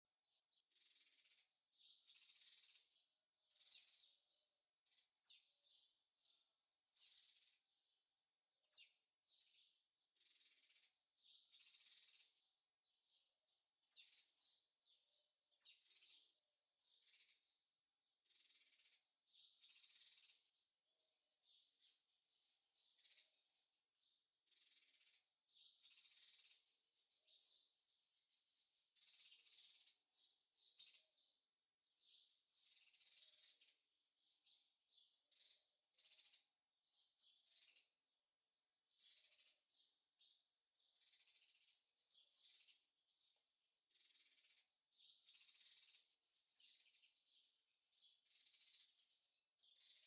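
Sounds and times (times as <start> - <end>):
faint birds chirping: 0.0 - 50.0.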